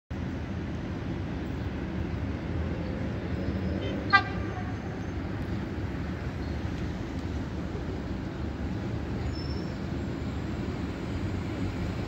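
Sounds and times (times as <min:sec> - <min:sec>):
distant train rumble: 0:00.2 - 0:12.0.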